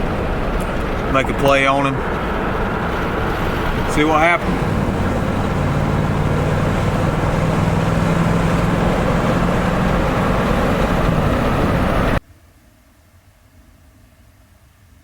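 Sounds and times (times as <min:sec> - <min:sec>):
vehicle engine and road rumble: 0:00.0 - 0:12.2.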